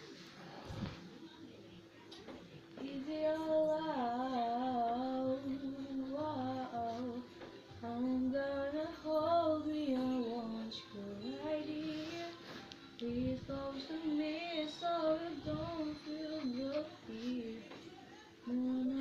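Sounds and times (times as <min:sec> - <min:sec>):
high voice singing slow melody: 0:02.8 - 0:19.0.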